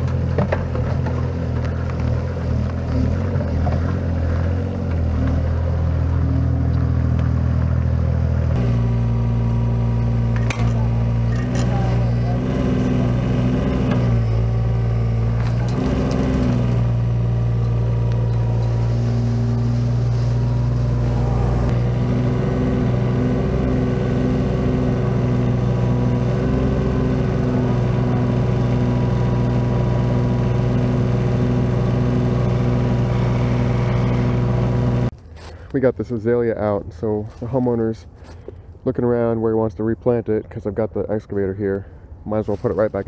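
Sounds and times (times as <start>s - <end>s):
excavator diesel engine running: 0.0s - 35.1s.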